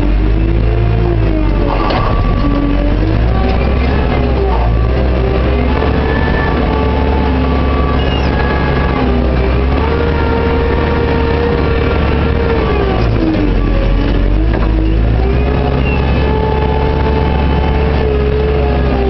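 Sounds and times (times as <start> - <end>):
diesel engine under load: 0.0 - 19.0
hydraulic whine: 0.0 - 19.0.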